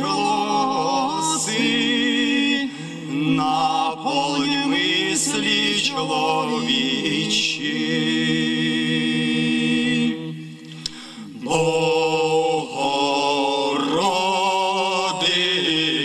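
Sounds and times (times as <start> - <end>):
male choir chanting: 0.0 - 10.6, 11.3 - 16.0.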